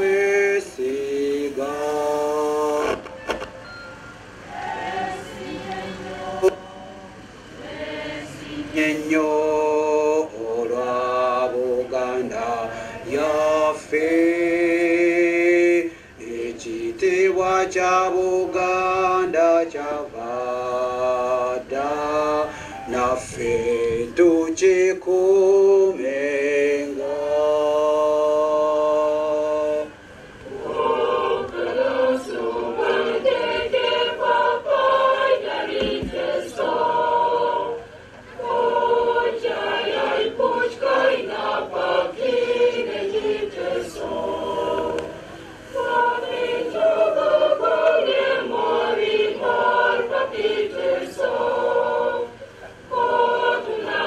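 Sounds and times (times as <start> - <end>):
group singing unaccompanied: 0.0 - 54.0.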